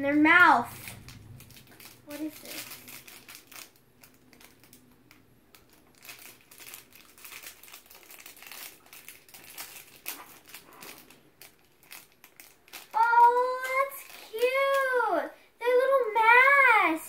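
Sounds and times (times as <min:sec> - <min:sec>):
wrapper crinkling: 0:00.6 - 0:15.0.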